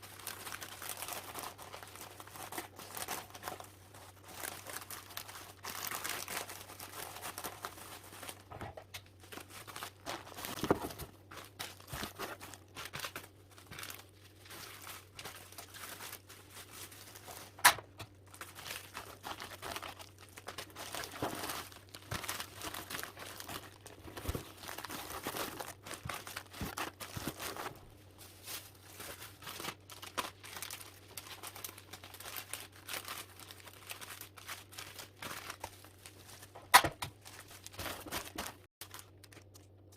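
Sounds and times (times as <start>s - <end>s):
packaging crinkling by hand: 0.0s - 39.9s.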